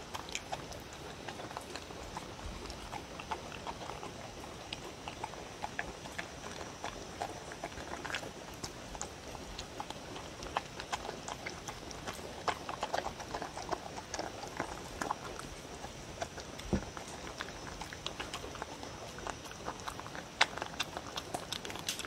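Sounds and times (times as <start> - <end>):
dog chewing wetly: 0.0 - 22.0.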